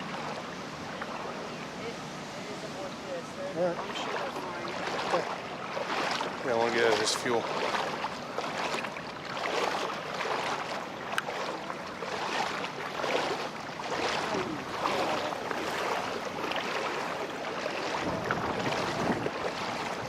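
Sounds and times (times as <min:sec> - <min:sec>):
footsteps wading through water: 0:00.0 - 0:20.0.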